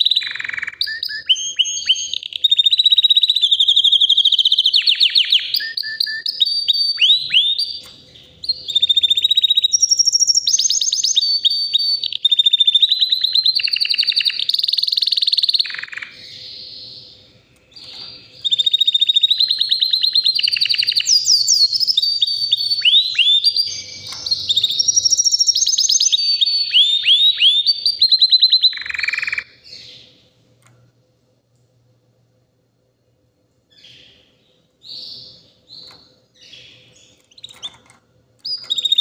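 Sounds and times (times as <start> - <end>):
canary singing trills: 0.0 - 30.3, 33.7 - 39.0.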